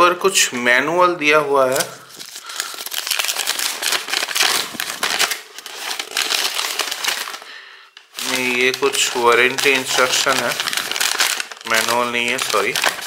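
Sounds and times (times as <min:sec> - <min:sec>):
paper crinkling and rustling: 0:01.6 - 0:13.0.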